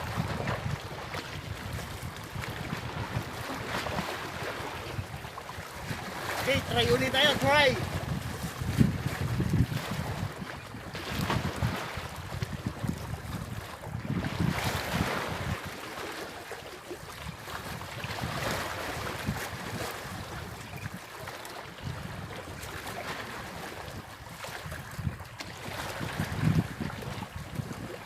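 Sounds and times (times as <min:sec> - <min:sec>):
wind buffeting microphone: 0:00.0 - 0:16.2, 0:17.0 - 0:28.0.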